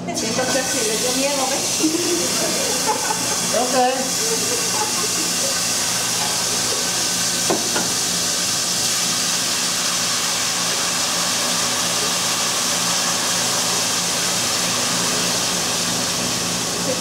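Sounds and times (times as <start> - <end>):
salsa sizzling in hot oil: 0.2 - 17.0.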